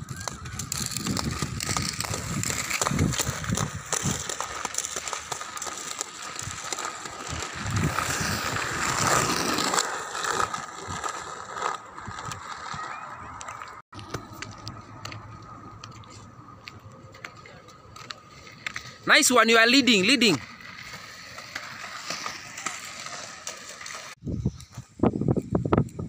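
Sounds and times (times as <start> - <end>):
skate wheels rolling on asphalt: 0.0 - 26.0.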